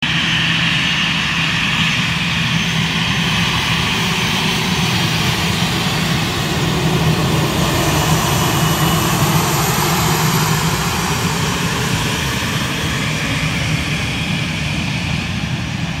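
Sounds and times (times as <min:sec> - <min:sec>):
airliner jet engines rushing: 0:00.0 - 0:16.0.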